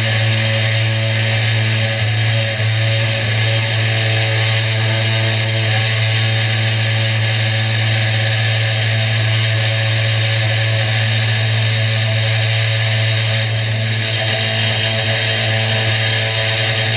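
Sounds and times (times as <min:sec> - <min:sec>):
router spindle motor humming: 0:00.0 - 0:16.9.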